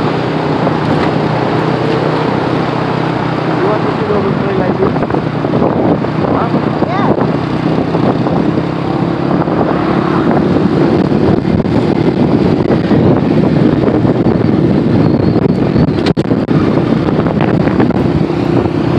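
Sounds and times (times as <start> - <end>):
vehicle engine running: 0.0 - 18.9
wind noise on microphone: 0.0 - 18.9.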